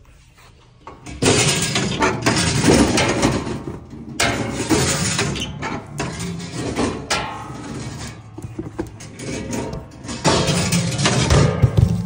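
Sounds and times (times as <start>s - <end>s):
metal bin door scraping and rattling: 1.1s - 12.0s.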